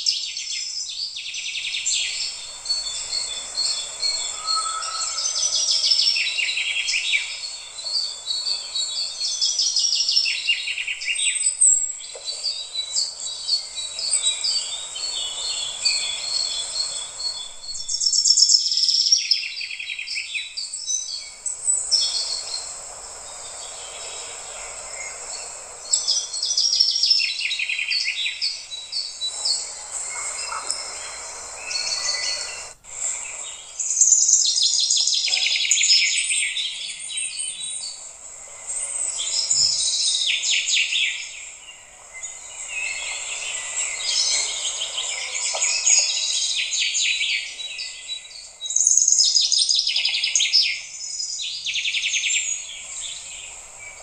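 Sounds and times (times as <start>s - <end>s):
small birds chirping and trilling: 0.0s - 54.0s
soft steady hiss: 0.0s - 54.0s.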